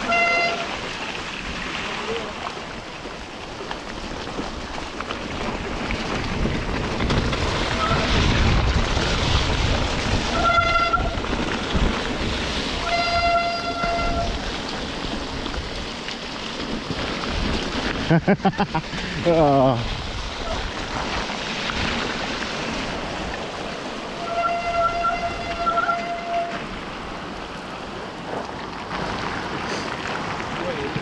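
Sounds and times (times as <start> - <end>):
wind and rain rushing: 0.0 - 31.0.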